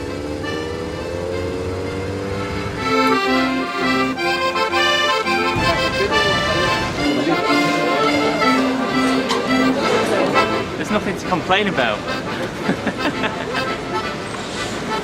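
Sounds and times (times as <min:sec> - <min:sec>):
accordion playing lively melody: 0:00.0 - 0:15.0.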